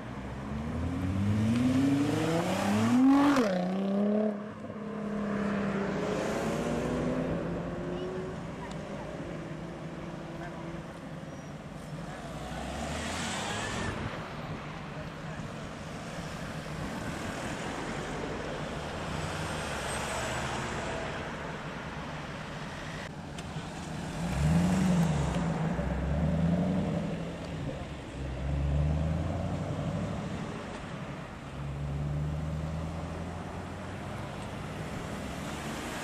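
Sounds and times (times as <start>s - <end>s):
traffic noise: 0.0s - 36.0s.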